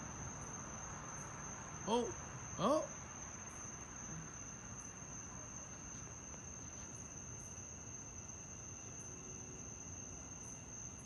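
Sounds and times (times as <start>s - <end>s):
crickets chirping: 0.0s - 11.0s
low background hiss: 0.0s - 11.0s.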